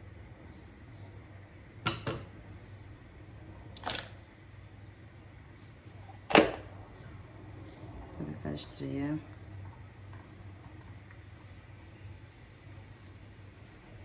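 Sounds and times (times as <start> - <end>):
low steady hum: 0.0 - 14.0
pot boiling: 0.0 - 14.0.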